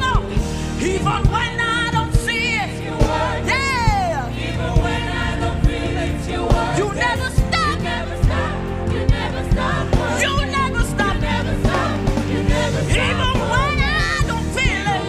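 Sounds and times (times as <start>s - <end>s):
backing choir singing: 0.0s - 15.0s
band with drums bass and keyboard: 0.0s - 15.0s.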